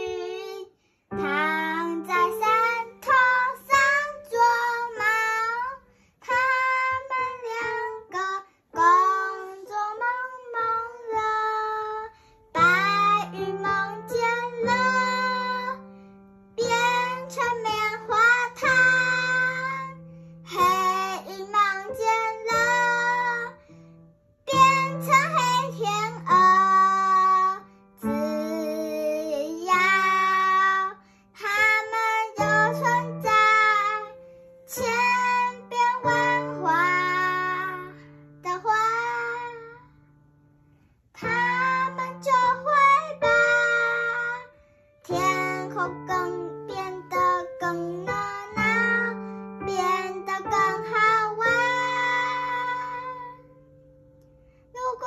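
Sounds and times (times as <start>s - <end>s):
girl singing: 0.0s - 53.8s, 54.5s - 55.0s
upright piano playing: 0.0s - 55.0s.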